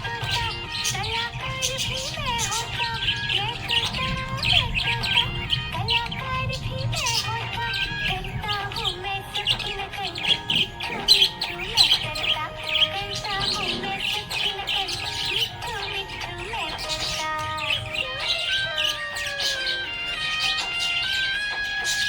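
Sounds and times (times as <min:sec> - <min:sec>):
budgerigars chirping: 0:00.0 - 0:22.0.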